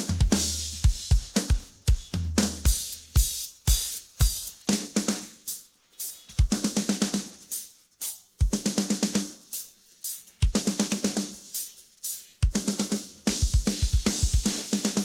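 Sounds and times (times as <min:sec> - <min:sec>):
bass drum and crash cymbal: 0:00.0 - 0:15.0.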